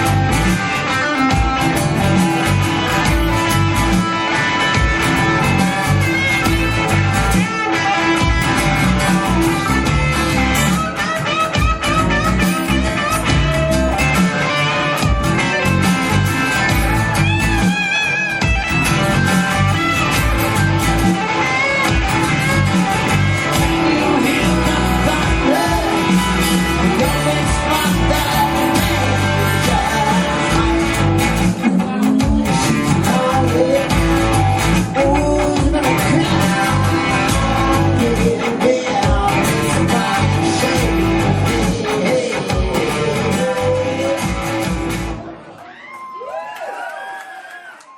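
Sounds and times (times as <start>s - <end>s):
guitar-led song: 0.0s - 45.7s.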